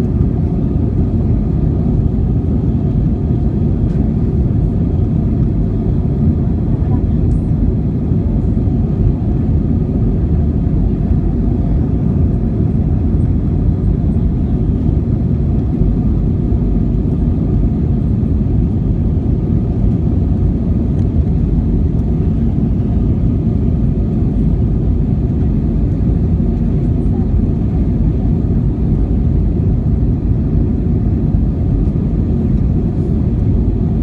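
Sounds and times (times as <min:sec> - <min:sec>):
jet airliner cabin rumble: 0:00.0 - 0:34.0.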